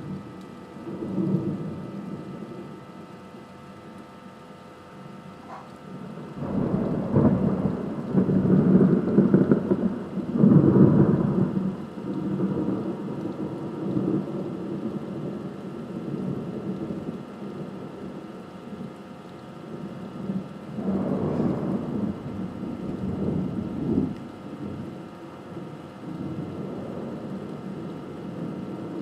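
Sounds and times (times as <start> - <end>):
thunder rumbling: 0.0 - 4.0, 5.0 - 29.0
rain hissing: 0.0 - 29.0.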